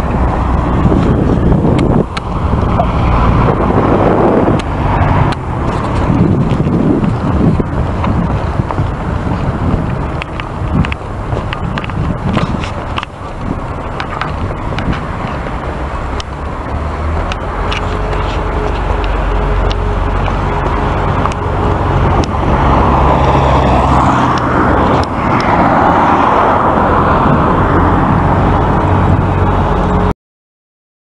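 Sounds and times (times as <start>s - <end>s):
road noise: 0.0s - 30.1s
vehicle engine hum: 0.0s - 30.1s.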